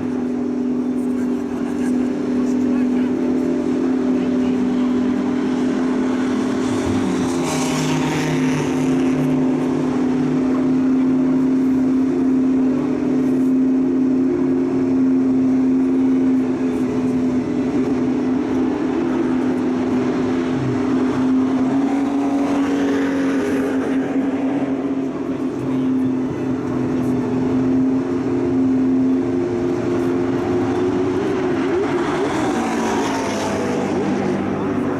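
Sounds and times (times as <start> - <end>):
car engine droning: 0.0 - 34.9.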